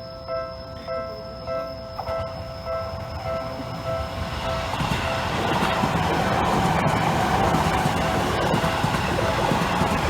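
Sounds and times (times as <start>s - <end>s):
level crossing warning bell: 0.0s - 10.0s
low rumble of approaching train: 0.0s - 10.0s.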